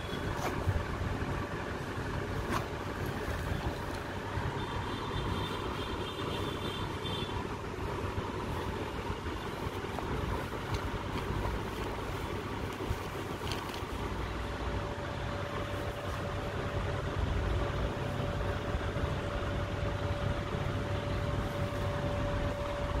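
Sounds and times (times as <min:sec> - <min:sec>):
low mechanical rumble: 0:00.0 - 0:23.0.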